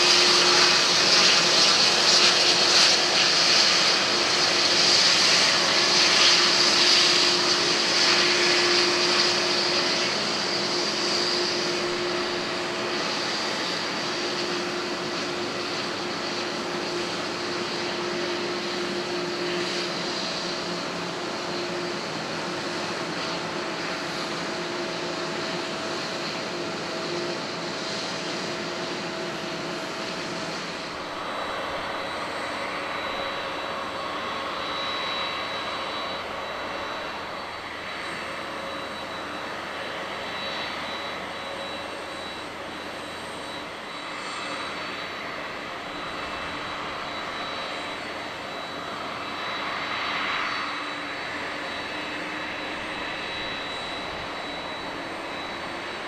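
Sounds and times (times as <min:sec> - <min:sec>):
jet engines hissing and whining: 0:00.0 - 0:56.0.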